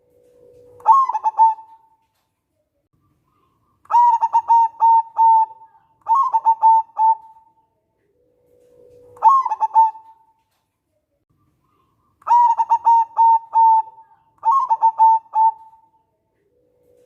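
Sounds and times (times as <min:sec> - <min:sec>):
dove cooing: 0:00.0 - 0:02.0, 0:03.4 - 0:10.4, 0:11.7 - 0:17.0.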